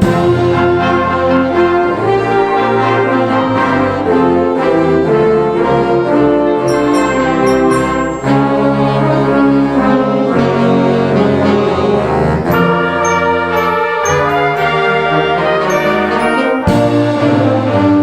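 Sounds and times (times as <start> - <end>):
concert band brass fanfare: 0.0 - 5.2, 6.3 - 11.8, 12.4 - 18.0.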